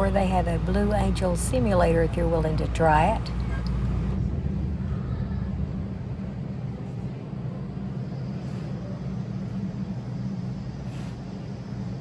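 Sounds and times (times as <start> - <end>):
low indoor background rumble: 0.0 - 12.0.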